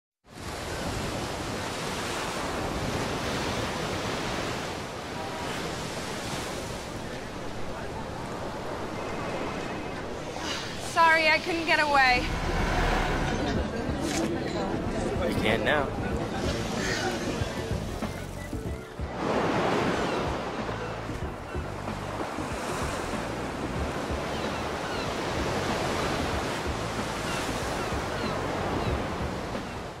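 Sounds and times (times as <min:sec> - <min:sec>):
ocean waves breaking on beach: 0:00.3 - 0:30.0.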